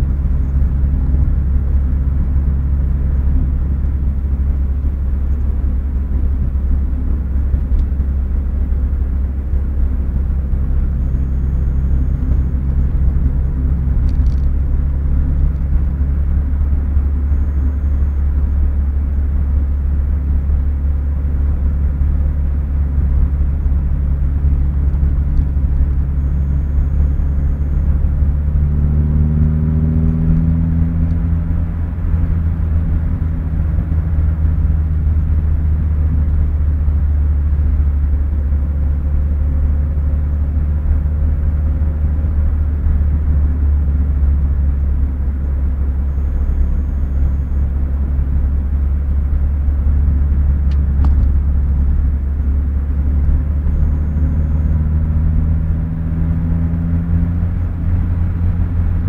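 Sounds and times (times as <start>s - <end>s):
car engine drone from cabin: 0.0s - 59.0s.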